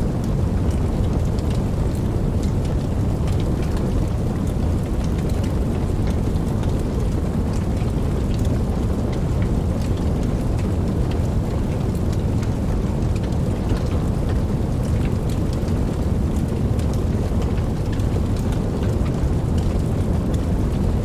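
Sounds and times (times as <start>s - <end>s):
deep rumble: 0.0s - 21.0s
raindrops ticking: 0.0s - 21.0s
steady rain: 0.0s - 21.0s.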